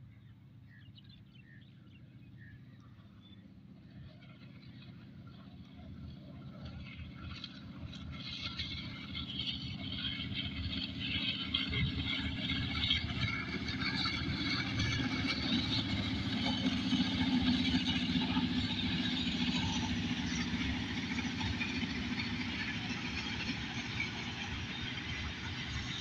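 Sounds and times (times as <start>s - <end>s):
distant train rumbling past: 0.3s - 26.0s.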